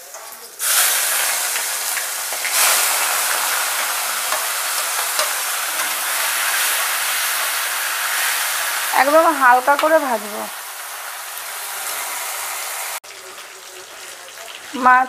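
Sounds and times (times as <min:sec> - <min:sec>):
prawns sizzling in hot oil: 0:00.0 - 0:15.0.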